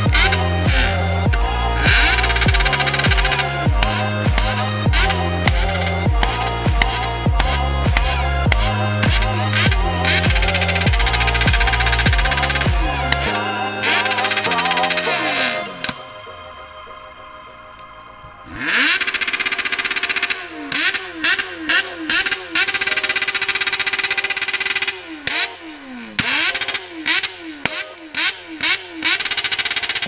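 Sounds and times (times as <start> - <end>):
motorcycle engine revving: 0.0 - 16.0, 18.4 - 30.0.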